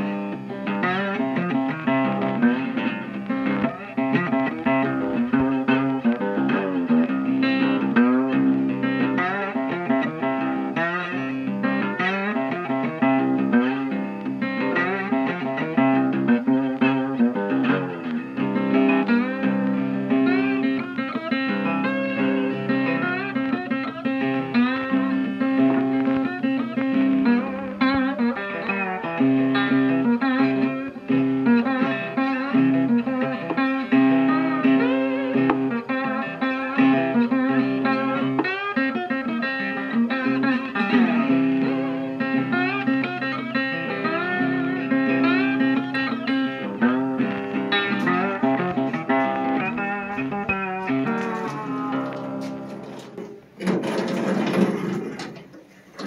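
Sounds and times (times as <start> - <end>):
instrumental guitar music: 0.0 - 56.0.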